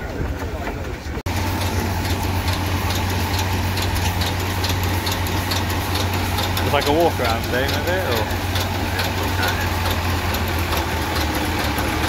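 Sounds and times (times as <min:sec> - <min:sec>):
engine humming: 0:00.0 - 0:12.0
light regular ticking: 0:01.3 - 0:12.0.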